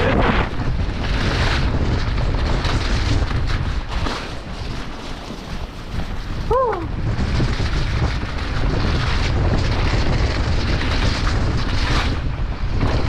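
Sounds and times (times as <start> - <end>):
wind buffeting microphone: 0.0 - 13.0
tyres rolling on muddy trail: 0.1 - 13.0.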